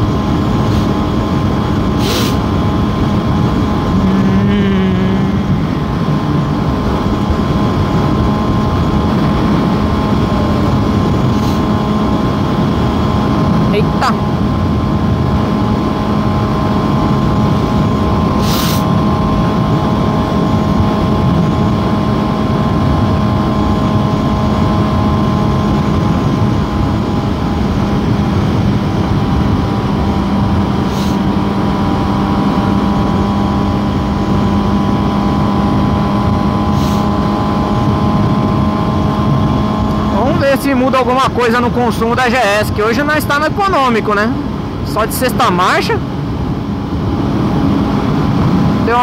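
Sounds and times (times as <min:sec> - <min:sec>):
motorcycle engine cruising: 0:00.0 - 0:49.0.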